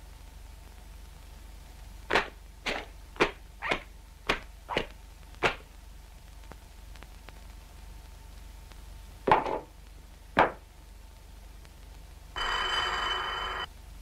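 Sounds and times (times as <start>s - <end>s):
low hum of old film sound: 0.0s - 14.0s.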